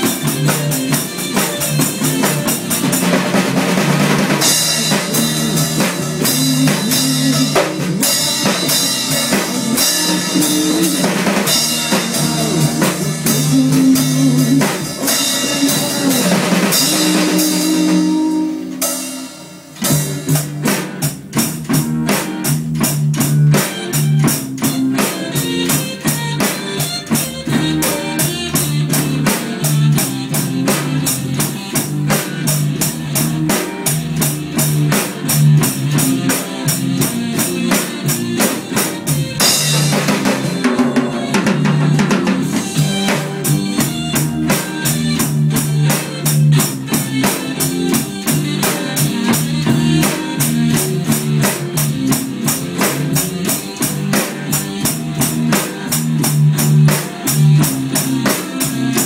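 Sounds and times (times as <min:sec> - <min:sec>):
rock band music: 0:00.0 - 0:59.0
steady drum beat: 0:00.0 - 0:59.0.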